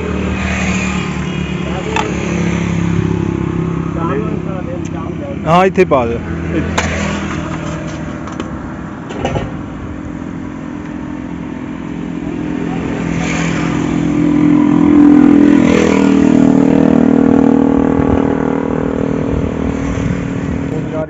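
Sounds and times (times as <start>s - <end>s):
vehicle engine passing: 0.0s - 21.0s.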